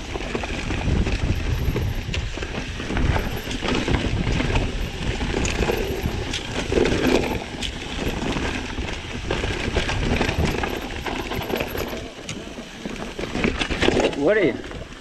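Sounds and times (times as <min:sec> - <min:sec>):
bike rattling and knocking: 0:00.0 - 0:15.0
bike tyres rolling over stones: 0:00.0 - 0:15.0.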